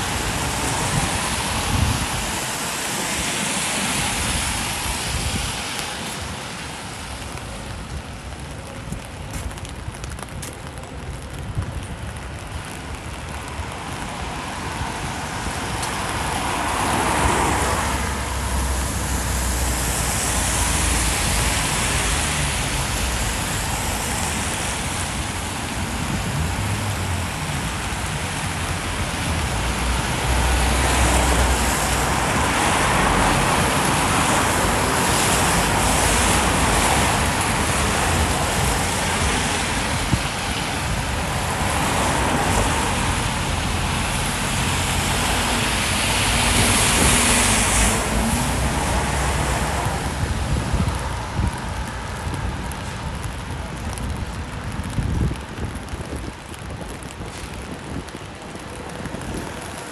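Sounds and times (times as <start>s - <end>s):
rain: 0.0s - 59.9s
traffic passing on wet road: 0.0s - 59.9s.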